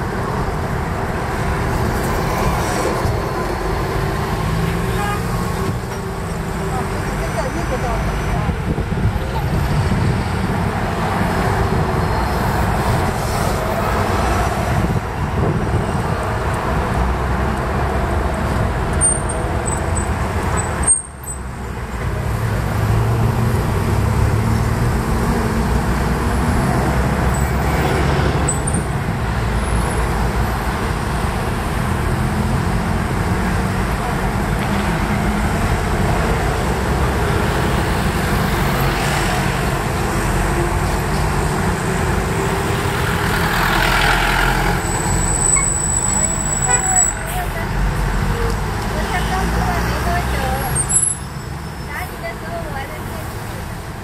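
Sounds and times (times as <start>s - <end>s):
cars and buses driving past: 0.0s - 54.0s.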